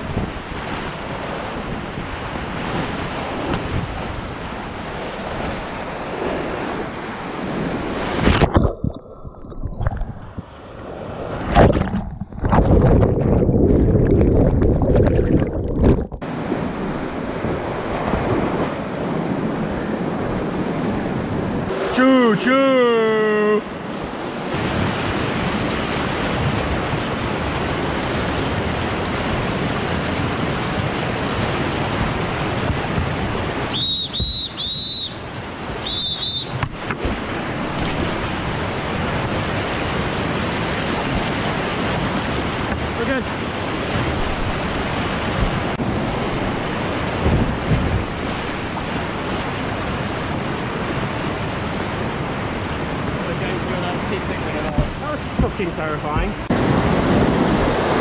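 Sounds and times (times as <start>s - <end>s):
river rapid water roaring: 0.0s - 8.5s, 16.2s - 58.0s
wind buffeting microphone: 0.0s - 21.9s, 23.8s - 34.6s, 36.5s - 58.0s.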